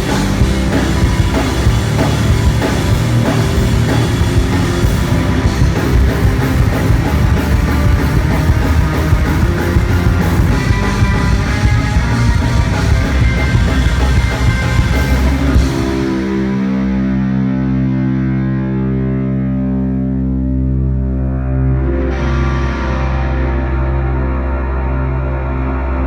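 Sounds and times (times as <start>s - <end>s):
rock drums: 0.0s - 25.6s
distorted electric guitar: 0.0s - 26.0s.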